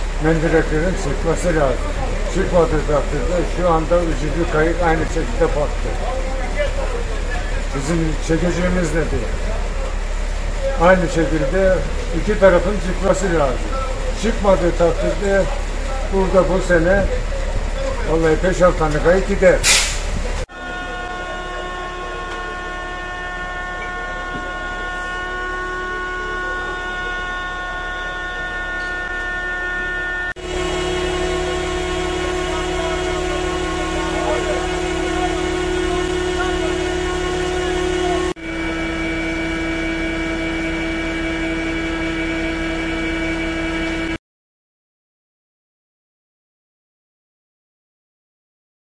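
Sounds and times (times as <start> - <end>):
pump whining over low hum: 0.0 - 44.2.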